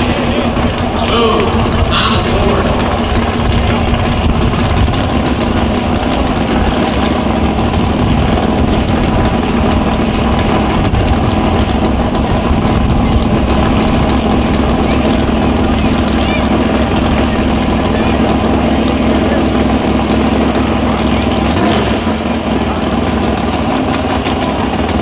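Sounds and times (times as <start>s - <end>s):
engine idling through open exhaust: 0.0s - 25.0s.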